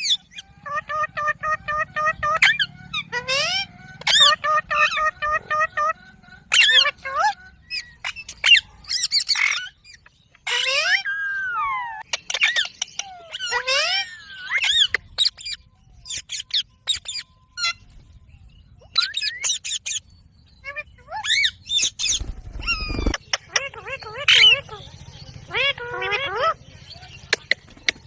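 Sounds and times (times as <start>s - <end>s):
parakeet squawking and chattering: 0.0s - 17.8s, 18.9s - 28.0s.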